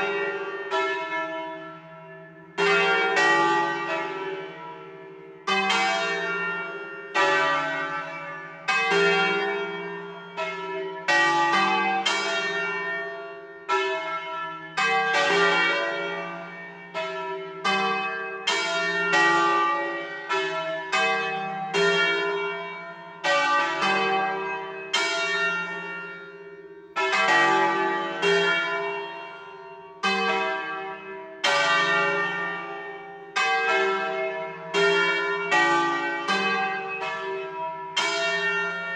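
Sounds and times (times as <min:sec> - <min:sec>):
swinging church bells ringing: 0:00.0 - 0:38.9.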